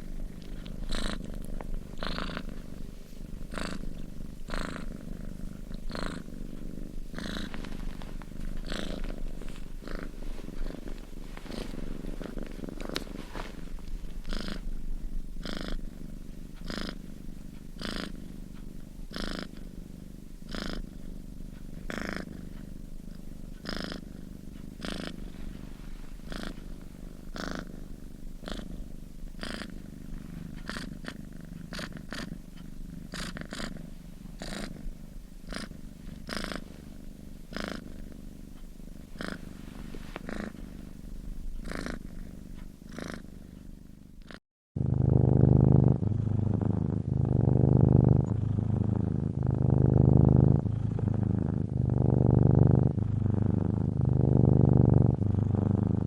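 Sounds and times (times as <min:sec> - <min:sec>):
cat snoring: 0:00.0 - 0:56.0.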